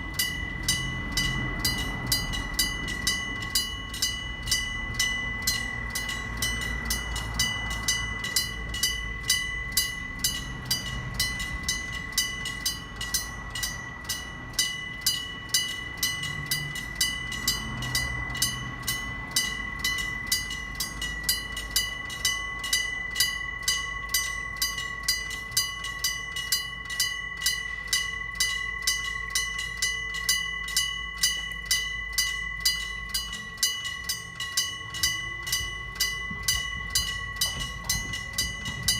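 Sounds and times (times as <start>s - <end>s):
level crossing bells ringing: 0.0s - 38.9s.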